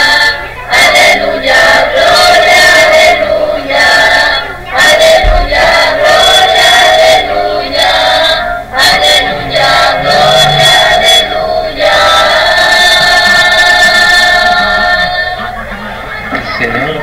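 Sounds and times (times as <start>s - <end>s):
group singing a hymn over loudspeaker: 0.0s - 17.0s.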